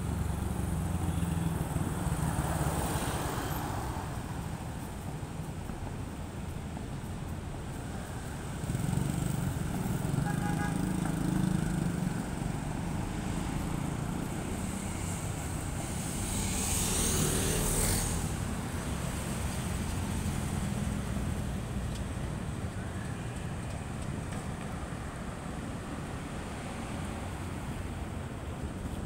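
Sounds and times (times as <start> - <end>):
cars and motorcycles passing: 0.0 - 6.4, 7.4 - 29.0.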